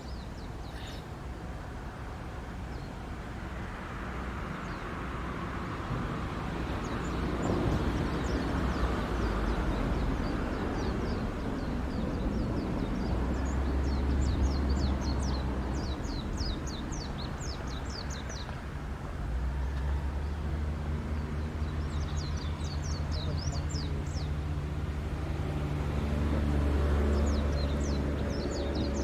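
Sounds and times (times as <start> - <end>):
birds chirping: 0.0 - 3.8, 6.4 - 29.0.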